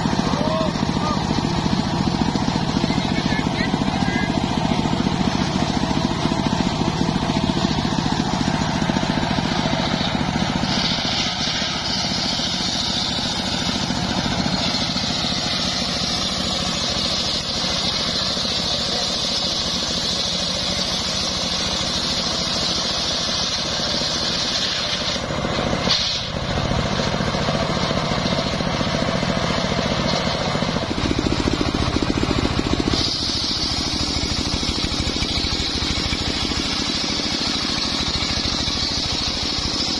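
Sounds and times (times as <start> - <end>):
saw blade cutting whine: 0.0 - 28.6, 30.0 - 39.9
sawmill engine rumbling: 0.0 - 39.9.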